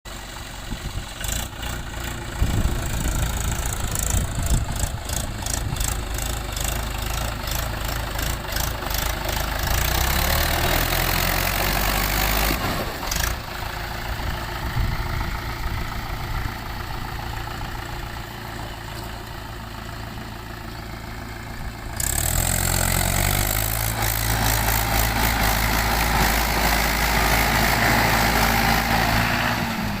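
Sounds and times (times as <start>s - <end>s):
tractor diesel engine running: 0.1s - 30.0s.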